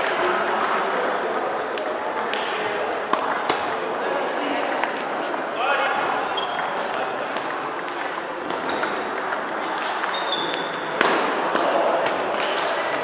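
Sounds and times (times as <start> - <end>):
murmur of sports hall: 0.0 - 13.0
table tennis balls clicking: 0.1 - 5.6, 6.4 - 13.0.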